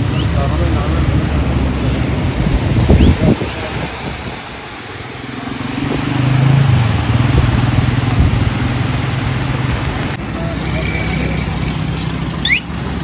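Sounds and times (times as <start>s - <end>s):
floodwater rushing: 0.0s - 13.0s
motorcycle engine running: 0.0s - 13.0s.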